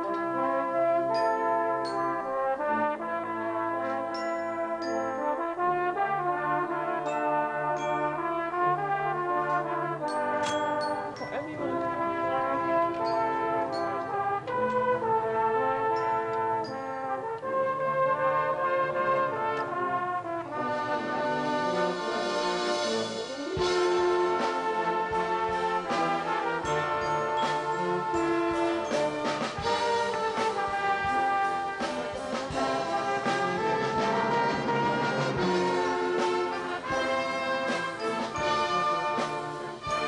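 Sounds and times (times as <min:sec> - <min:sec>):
brass band playing held chords: 0:00.0 - 0:40.0.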